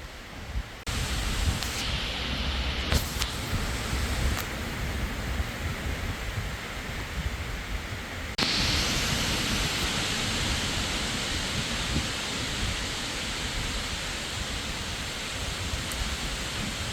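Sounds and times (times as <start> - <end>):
driving rain hiss: 0.0 - 16.9
wind rumbling on microphone: 0.0 - 16.9.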